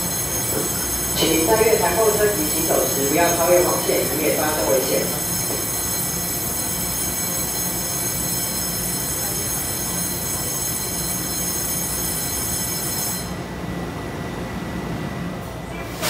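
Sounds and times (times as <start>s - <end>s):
high multi-tone whine: 0.0s - 13.5s
train rumbling: 0.0s - 16.0s.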